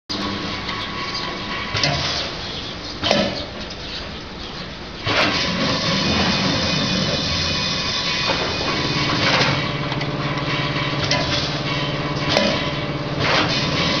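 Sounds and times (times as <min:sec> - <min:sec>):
low motor hum: 0:00.1 - 0:14.0
packing machine drone: 0:00.1 - 0:14.0.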